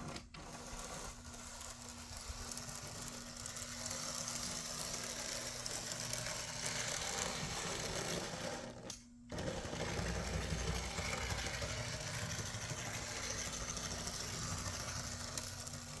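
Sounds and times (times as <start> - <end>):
model train motor whirring: 0.0 - 16.0.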